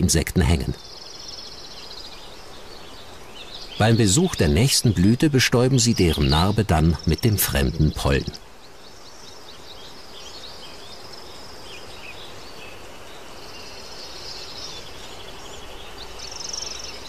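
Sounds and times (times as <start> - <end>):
background hiss: 0.0 - 17.0
small birds chirping: 0.0 - 17.0.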